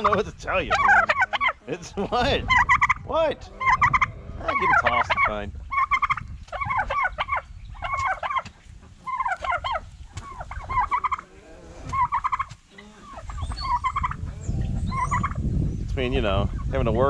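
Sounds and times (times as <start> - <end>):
turkeys gobbling: 0.0 - 15.5.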